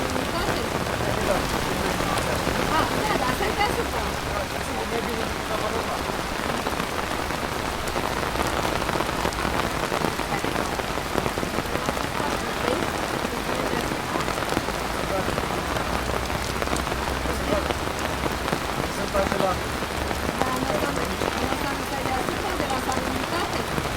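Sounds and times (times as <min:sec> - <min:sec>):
pouring rain: 0:00.0 - 0:23.9
raindrops ticking: 0:00.0 - 0:23.9.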